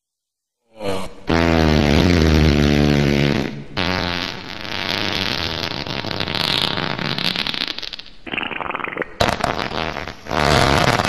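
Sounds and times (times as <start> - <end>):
wet fart sounds: 1.3 - 11.0.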